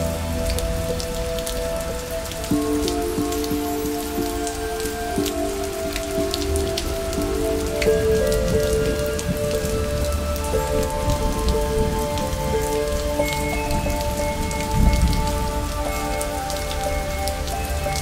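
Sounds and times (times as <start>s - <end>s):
rain patter: 0.0s - 18.0s
slow music of long held notes: 0.0s - 18.0s.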